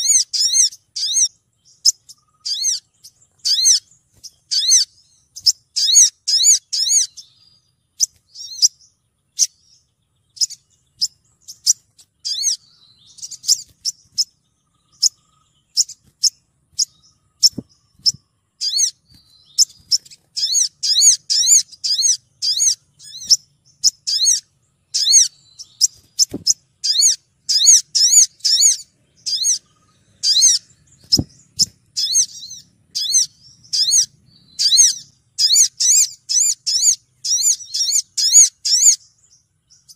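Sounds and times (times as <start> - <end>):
sunbird short high chirps: 0.0 - 39.9.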